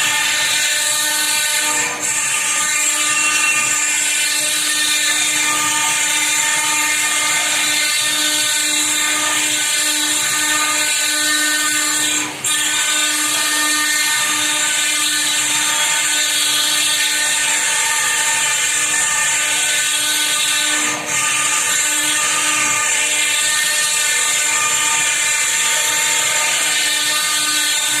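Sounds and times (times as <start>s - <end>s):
router spindle whine cutting stone: 0.0s - 28.0s.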